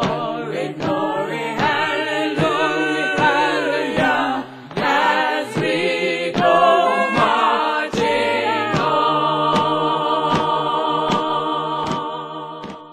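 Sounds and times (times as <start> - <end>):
sharp beat: 0.0 - 12.8
voices singing in harmony: 0.0 - 12.9.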